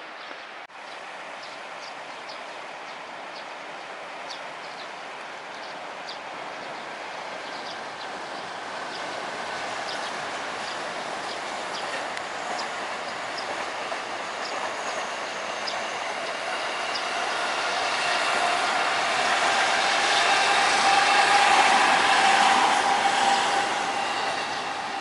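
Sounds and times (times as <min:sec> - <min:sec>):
electric train passing: 0:00.8 - 0:25.0
train whine: 0:00.8 - 0:25.0.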